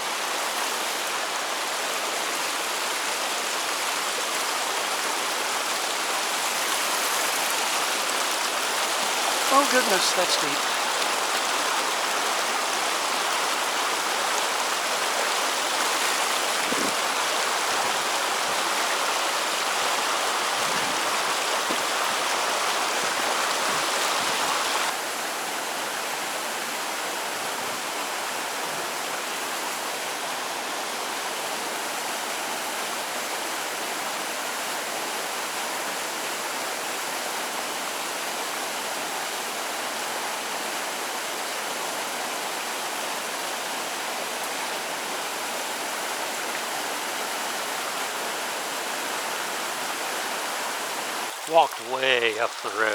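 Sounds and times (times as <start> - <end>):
river water flowing: 0.0 - 52.9.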